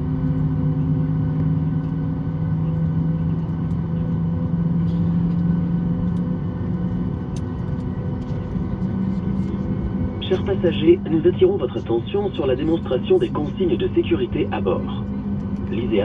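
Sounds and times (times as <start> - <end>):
aircraft cabin rumble and hum: 0.0 - 16.0.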